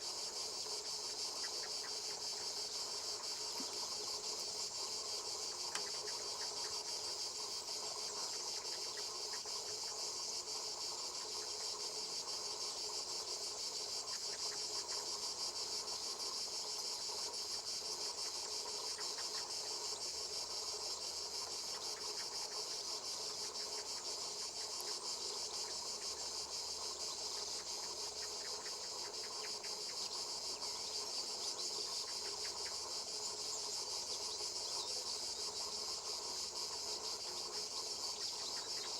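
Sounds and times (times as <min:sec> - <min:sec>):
insect chorus buzzing: 0:00.0 - 0:38.9.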